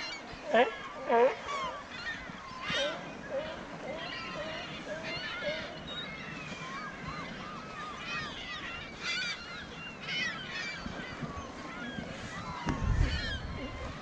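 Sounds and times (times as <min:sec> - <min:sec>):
flock of gulls calling: 0:00.0 - 0:14.0.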